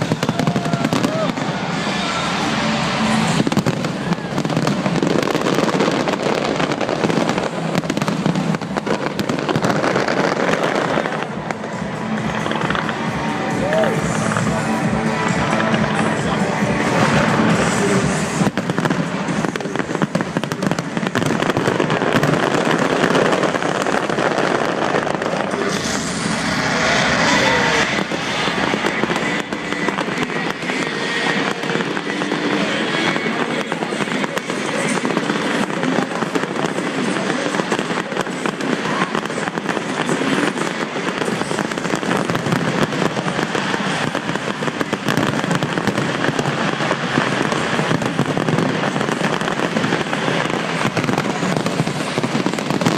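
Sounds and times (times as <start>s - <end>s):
fireworks crackling and popping: 0.0s - 52.9s.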